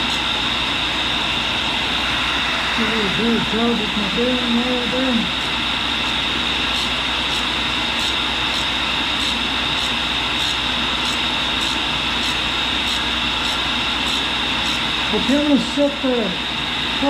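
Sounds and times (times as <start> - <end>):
grinder wheel grinding drill bit: 0.0 - 15.4.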